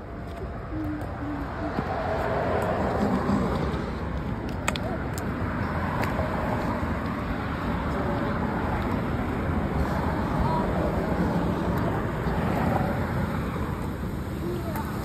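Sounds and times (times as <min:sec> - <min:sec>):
steady outdoor rumble: 0:00.0 - 0:15.0.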